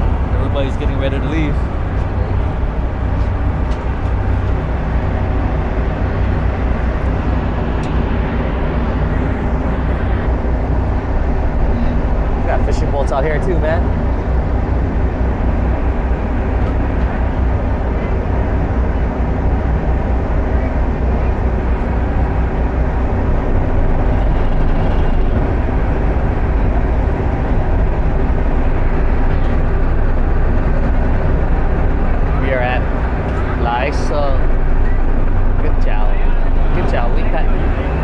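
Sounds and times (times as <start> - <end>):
ferry engines droning: 0.0 - 38.0.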